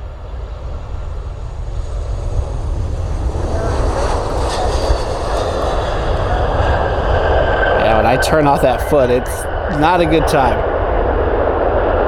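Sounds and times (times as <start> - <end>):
jet engines whine and rumble: 0.0 - 12.0
wind rumbling on microphone: 0.0 - 12.0.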